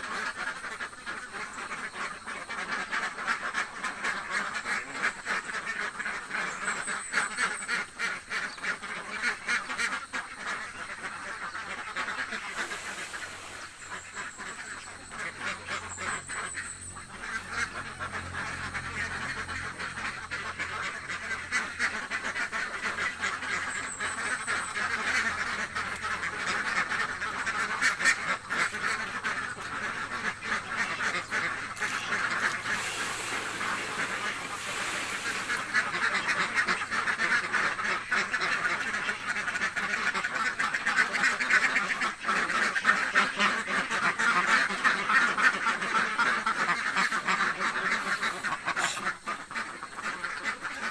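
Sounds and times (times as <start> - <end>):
ducks quacking: 0.0 - 50.9.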